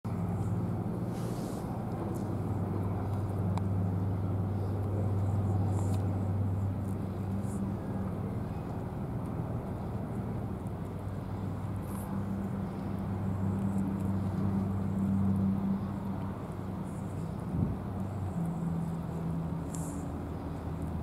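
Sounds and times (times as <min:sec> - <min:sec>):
engine humming: 0:00.1 - 0:21.0.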